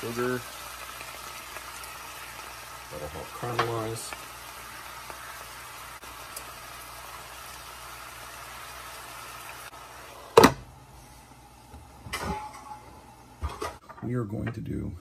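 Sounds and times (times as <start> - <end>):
vegetables sizzling in oil: 0.0 - 13.6.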